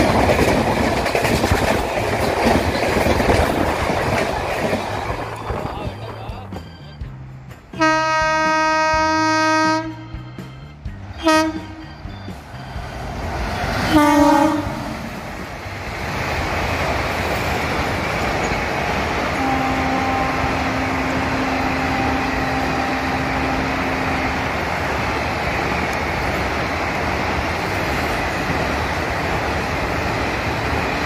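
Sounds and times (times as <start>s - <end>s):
train coaches rumbling on rails: 0.0s - 31.0s.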